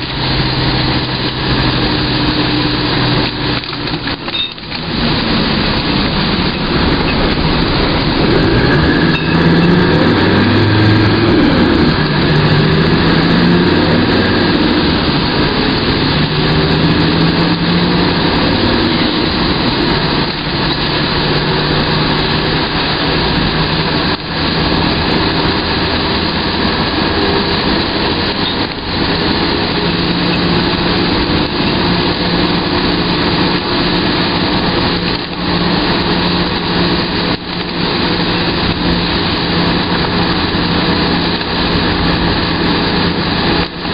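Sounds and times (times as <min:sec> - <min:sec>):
vehicle engine running: 0:00.0 - 0:43.9
wet road and wind hiss: 0:00.0 - 0:43.9.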